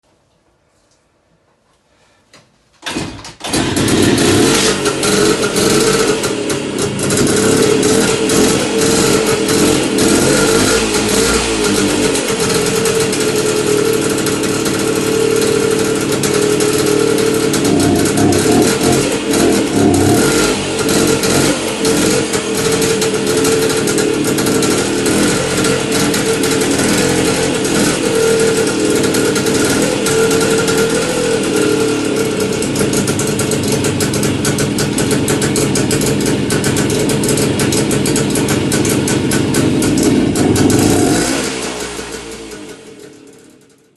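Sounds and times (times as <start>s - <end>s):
engine running: 2.8s - 43.9s.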